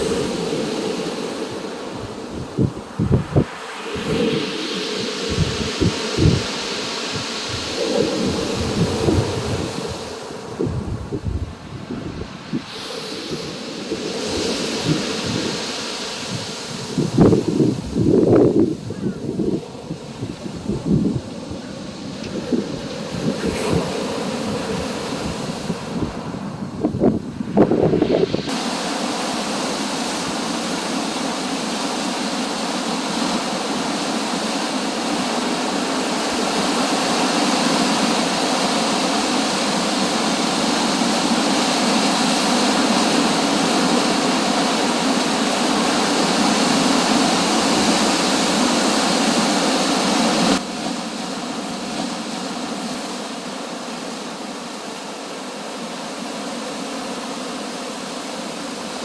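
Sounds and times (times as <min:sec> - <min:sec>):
sea surf breaking: 0:00.0 - 0:59.0.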